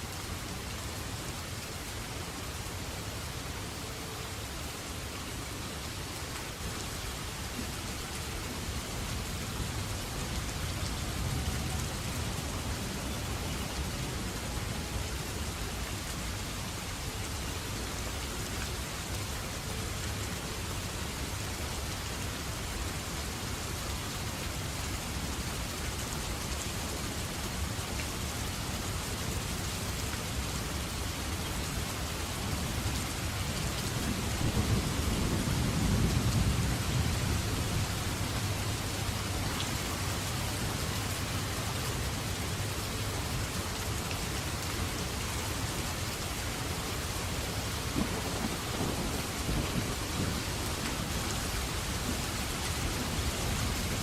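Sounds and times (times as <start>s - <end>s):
heavy rainfall: 0.0s - 54.0s.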